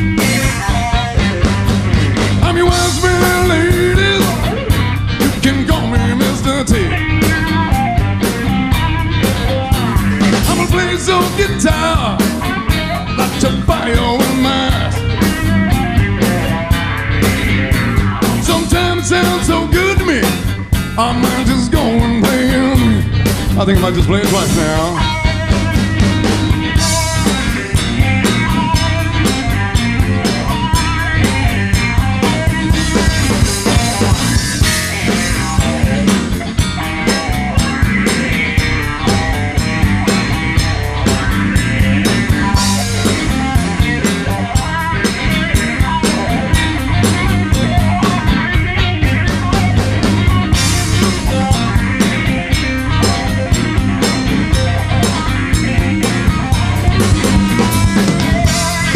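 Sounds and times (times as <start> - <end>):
bass guitar: 0.0 - 58.9
drum kit beat: 0.0 - 58.9
guitar solo: 0.0 - 58.9.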